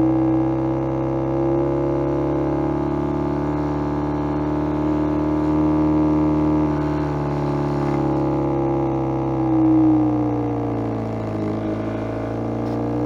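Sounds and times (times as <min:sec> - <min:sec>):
electronic engine-like drone: 0:00.0 - 0:13.0.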